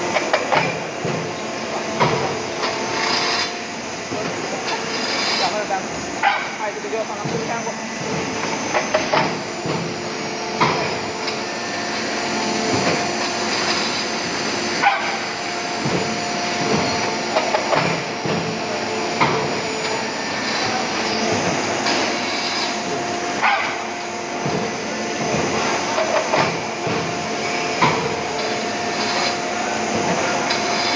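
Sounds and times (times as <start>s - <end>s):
machine humming: 0.0s - 30.9s.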